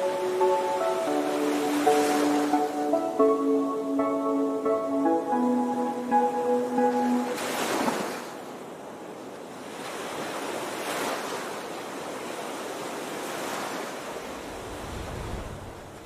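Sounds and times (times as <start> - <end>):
surf washing in: 0.0 - 16.0.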